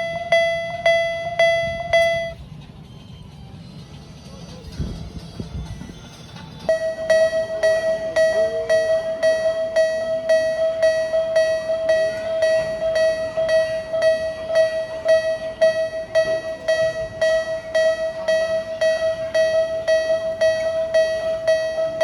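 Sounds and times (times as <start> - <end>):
level crossing electronic bell: 0.0 - 2.4, 6.7 - 22.0.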